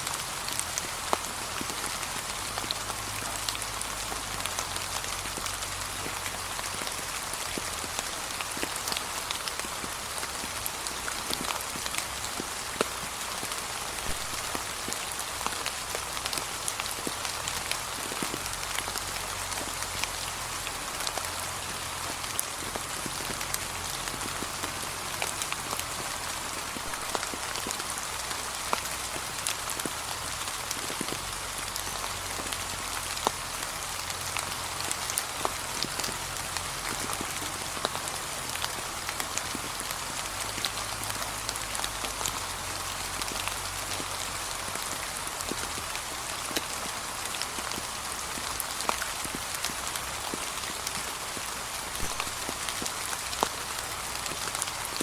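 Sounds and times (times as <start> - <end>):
light rain on leaves: 0.0 - 55.0.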